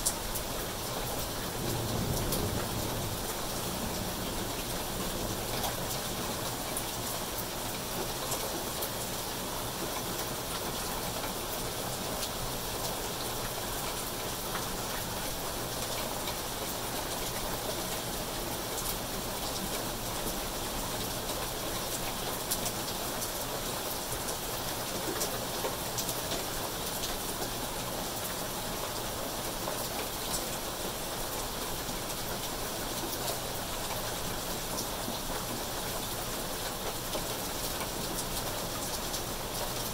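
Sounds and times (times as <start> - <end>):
heavy rain on foliage and pavement: 0.0 - 39.9
raindrops tapping close by: 0.0 - 39.9.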